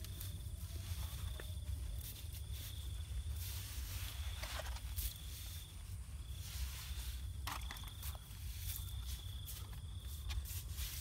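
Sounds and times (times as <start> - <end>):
mud scraping and rustling: 0.0 - 11.0.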